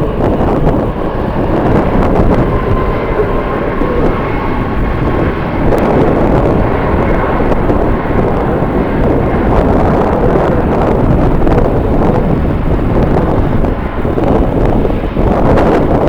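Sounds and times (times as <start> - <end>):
jet engines rumbling: 0.0 - 16.0
wind buffeting microphone: 0.0 - 16.0.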